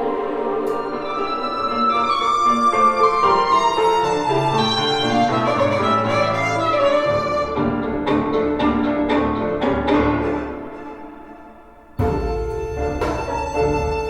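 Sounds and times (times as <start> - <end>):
orchestral music with violins: 0.0 - 14.0.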